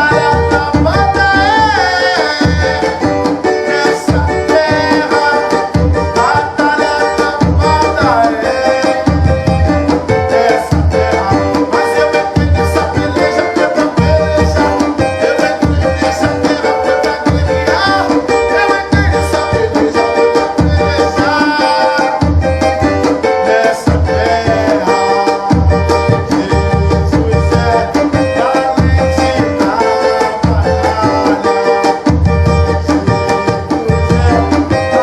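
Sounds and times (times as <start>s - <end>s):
hand drum low beats: 0.0s - 35.0s
strummed cavaquinho: 0.0s - 35.0s.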